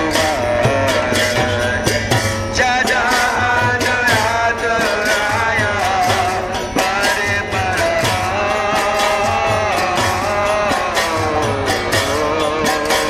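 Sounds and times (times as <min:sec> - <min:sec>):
drums beating: 0:00.0 - 0:13.0
hand cymbals clashing: 0:00.0 - 0:13.0
man singing devotional song: 0:00.0 - 0:13.0.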